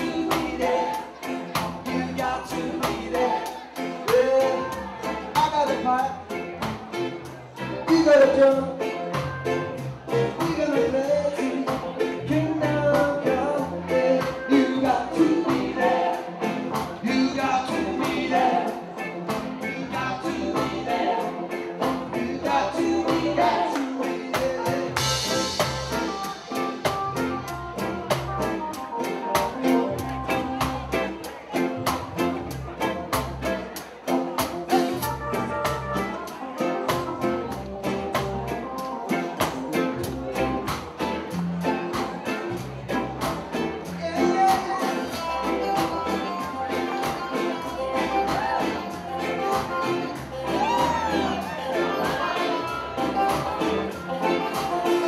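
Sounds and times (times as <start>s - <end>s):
live band music: 0.0s - 55.0s.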